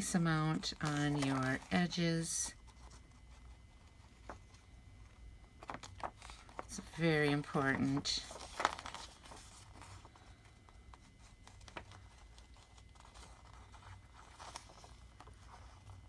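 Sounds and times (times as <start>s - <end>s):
paper rustling and scraping: 0.0s - 16.0s.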